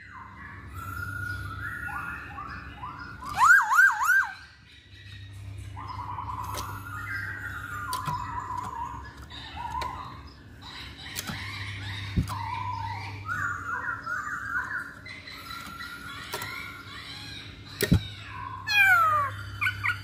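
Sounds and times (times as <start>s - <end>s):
bird singing warbled phrases: 0.0s - 20.0s.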